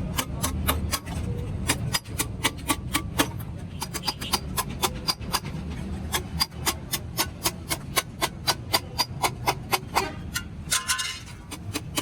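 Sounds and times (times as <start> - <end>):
hammer tapping on sheet metal: 0.0 - 10.5, 11.5 - 12.0.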